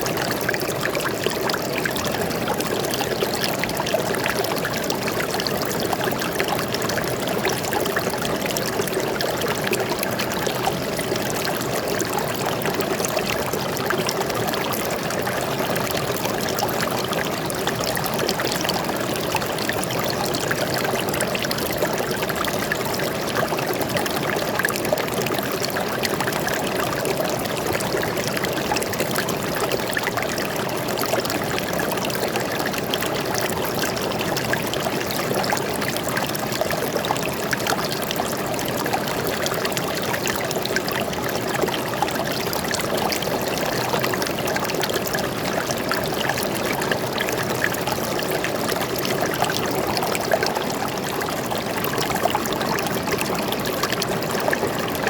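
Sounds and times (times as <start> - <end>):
flowing water: 0.0 - 55.0
water splashing and trickling: 0.0 - 55.0.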